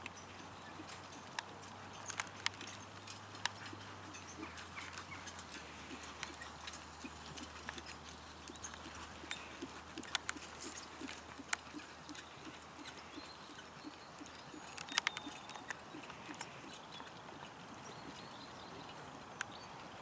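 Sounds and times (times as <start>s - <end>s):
hooves thudding on grass: 0.0s - 20.0s
sharp clicks: 0.8s - 17.2s.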